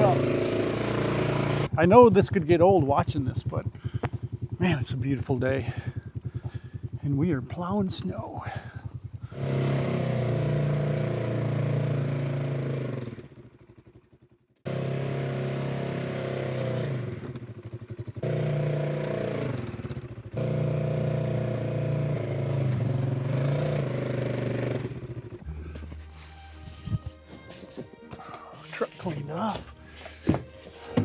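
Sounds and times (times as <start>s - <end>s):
vehicle engine running under load: 0.0s - 31.0s.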